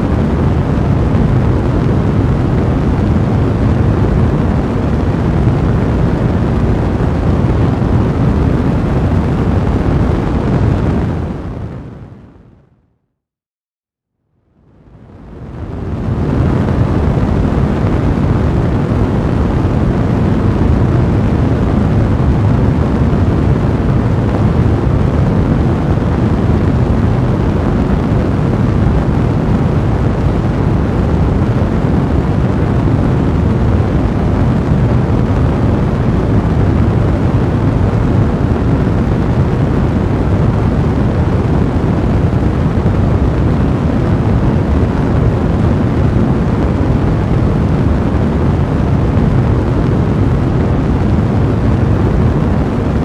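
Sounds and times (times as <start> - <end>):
fire blazing with low rumble: 0.0 - 12.8, 14.3 - 53.0.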